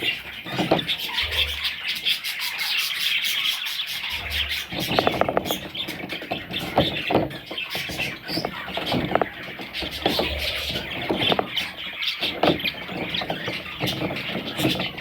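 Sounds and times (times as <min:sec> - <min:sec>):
parrot chicks calling: 0:00.0 - 0:15.0.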